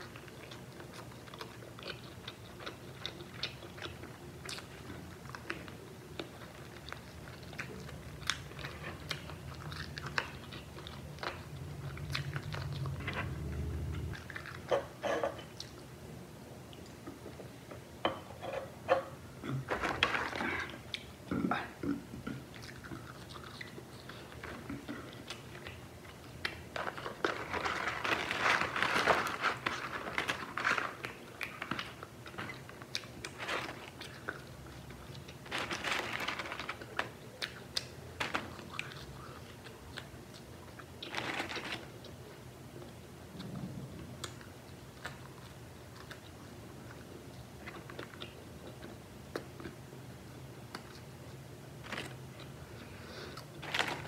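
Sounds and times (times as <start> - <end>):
chewing fried food: 0.0 - 16.0, 22.1 - 54.0.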